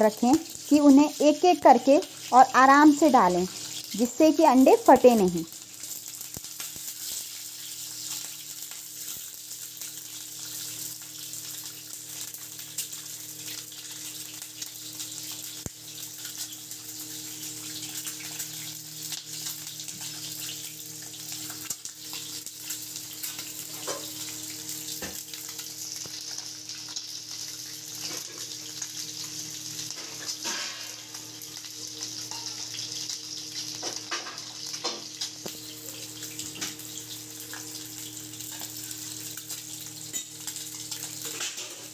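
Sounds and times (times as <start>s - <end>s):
eggs sizzling in hot oil: 0.0s - 41.9s
oil popping and crackling: 0.0s - 41.9s.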